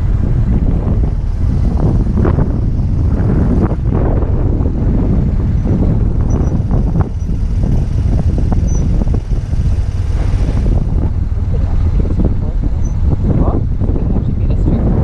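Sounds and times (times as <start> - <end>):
motorcycle engine rumble: 0.0 - 15.0
wind buffeting microphone: 0.0 - 15.0.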